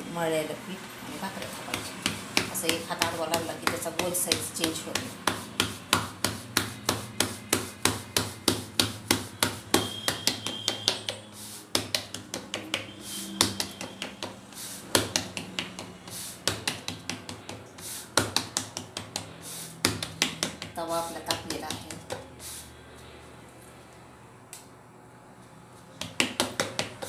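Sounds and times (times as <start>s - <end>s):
hand slapping dough: 1.3s - 22.5s, 25.9s - 27.0s.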